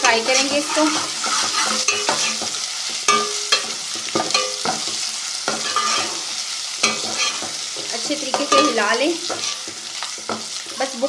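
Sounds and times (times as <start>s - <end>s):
steel spoon scraping and clinking pot: 0.0s - 6.2s, 6.8s - 10.5s
onions sizzling in hot oil: 0.0s - 11.0s.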